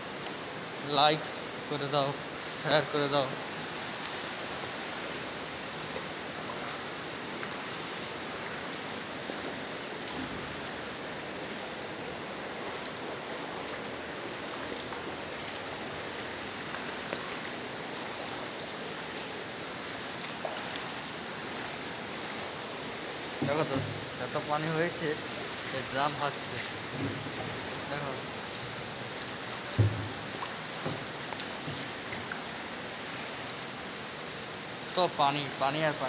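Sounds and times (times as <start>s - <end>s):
feet splashing through shallow water: 3.4s - 34.9s.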